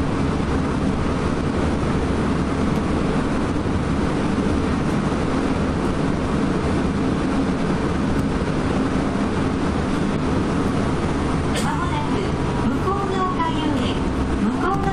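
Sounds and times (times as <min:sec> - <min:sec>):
electric train running: 0:00.0 - 0:14.9.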